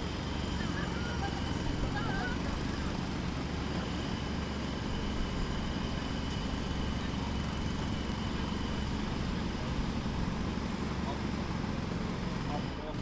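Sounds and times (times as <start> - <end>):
distant jackhammer pounding: 0.0 - 13.0.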